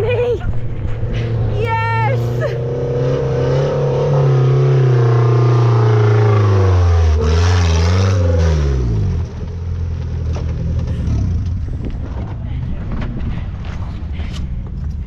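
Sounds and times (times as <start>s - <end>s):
racing car engine: 0.0s - 14.5s
low engine rumble: 0.0s - 15.0s.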